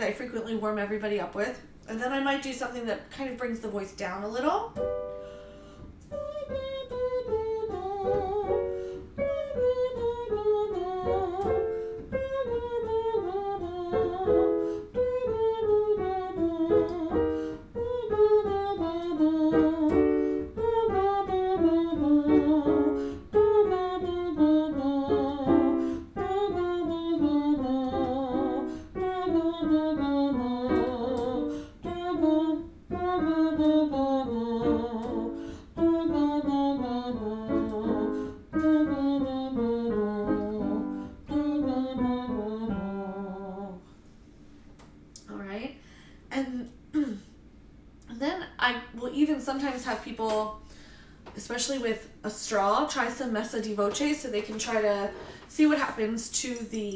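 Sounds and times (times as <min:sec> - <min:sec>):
woman singing vocal warm-up: 0:05.8 - 0:44.0, 0:48.1 - 0:56.9.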